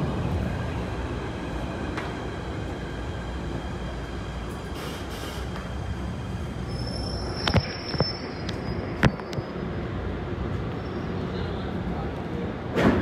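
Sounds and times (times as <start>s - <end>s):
low hum inside subway car: 0.0s - 13.0s.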